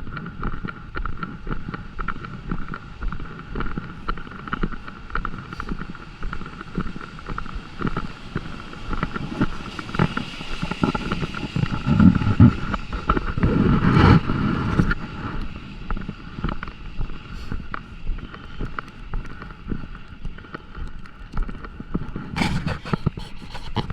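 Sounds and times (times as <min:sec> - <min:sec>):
low rumble: 0:00.0 - 0:19.3
rain ticks and taps: 0:00.1 - 0:22.2.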